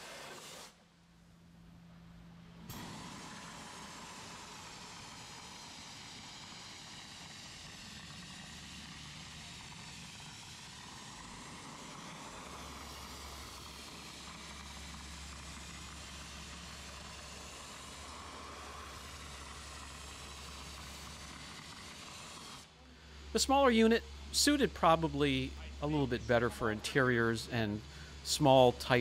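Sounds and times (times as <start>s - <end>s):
compressed air jet hissing: 0.0s - 0.9s, 2.7s - 29.0s.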